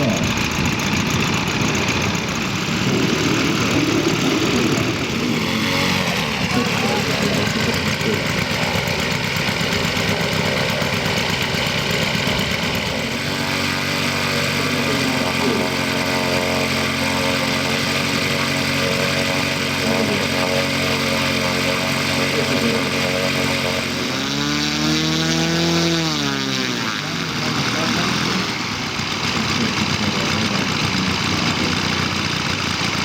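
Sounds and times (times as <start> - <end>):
model aircraft engine running: 0.0 - 33.0.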